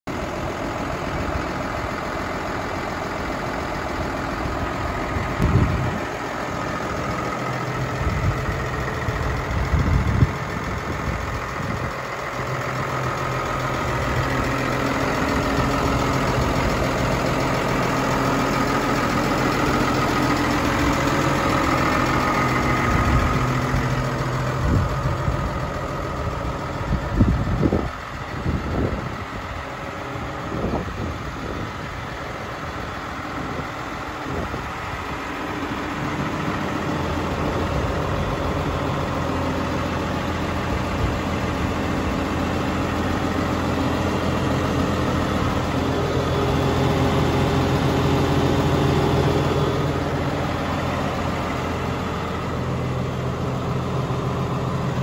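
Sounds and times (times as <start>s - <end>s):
tractor diesel engine idling: 0.0s - 55.0s.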